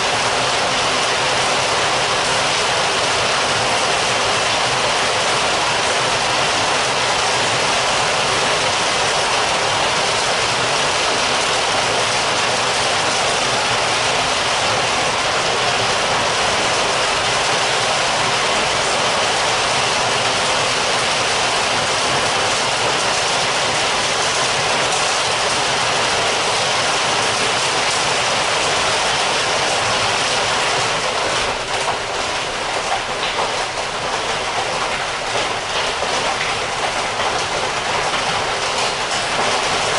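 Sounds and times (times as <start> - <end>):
heavy rain hissing: 0.0 - 39.9
raindrops pattering: 0.0 - 39.9.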